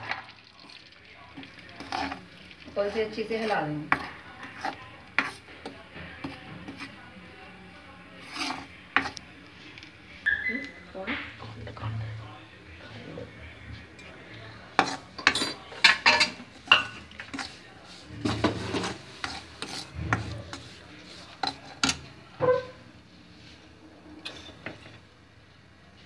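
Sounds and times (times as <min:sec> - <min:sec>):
utensil scraping in a pan: 0:00.0 - 0:10.2, 0:14.0 - 0:25.0.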